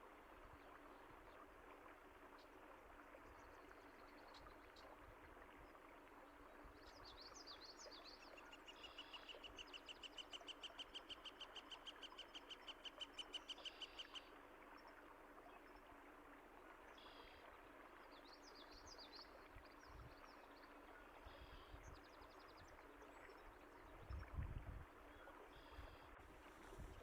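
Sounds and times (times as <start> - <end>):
trickle of running water: 0.0 - 27.0.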